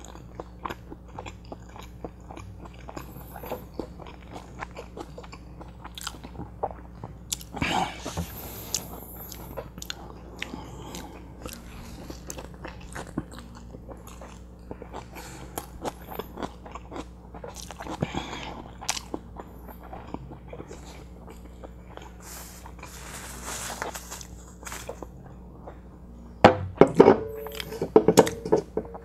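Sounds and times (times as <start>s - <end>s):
man chewing food: 0.0s - 26.4s, 27.4s - 29.0s.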